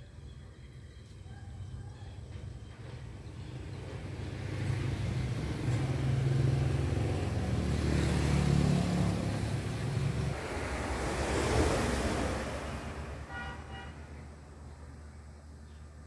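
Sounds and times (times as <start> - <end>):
engine running: 2.7 - 16.0.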